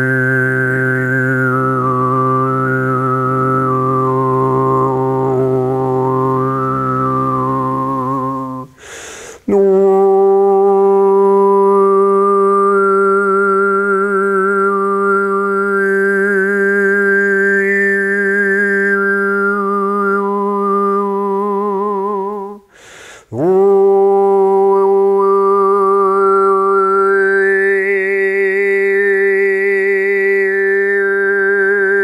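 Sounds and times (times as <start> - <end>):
man overtone singing: 0.0 - 32.0.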